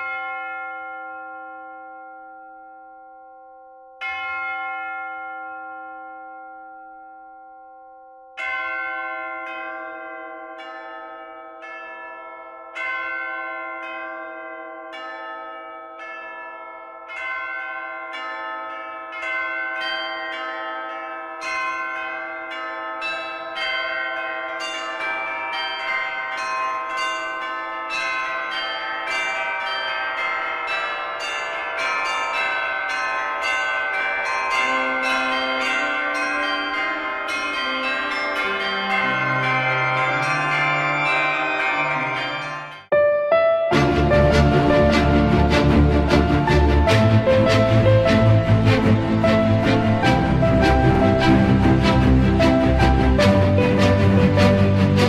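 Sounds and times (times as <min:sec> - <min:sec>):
bell strikes at different pitches: 0:00.0 - 0:51.7
large bell ringing: 0:00.0 - 0:55.0.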